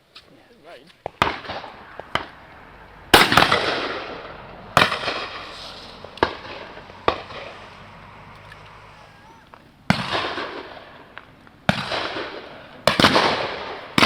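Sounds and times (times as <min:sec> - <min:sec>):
shotgun shots echoing: 0:01.1 - 0:07.9, 0:08.8 - 0:14.0.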